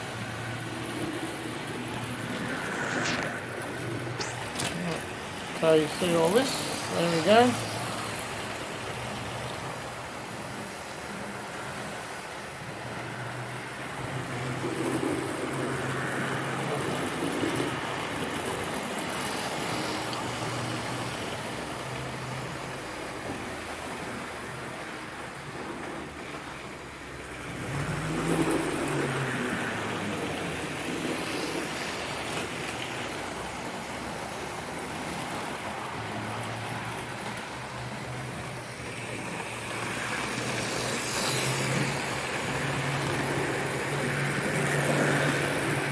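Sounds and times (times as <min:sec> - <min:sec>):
model train wheels rumbling on rails: 0:00.0 - 0:45.9.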